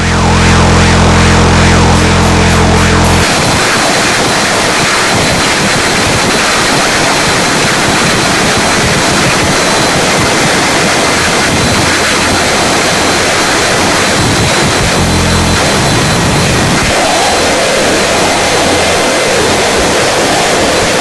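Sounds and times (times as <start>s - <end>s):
harsh noise music: 0.0s - 21.0s.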